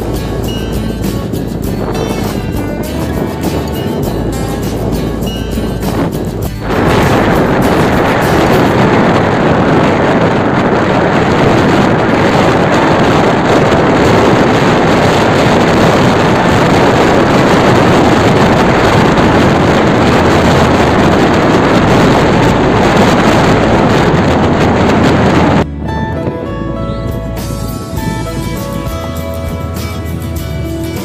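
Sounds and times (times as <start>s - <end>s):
loud steady rushing noise: 0.0s - 31.0s.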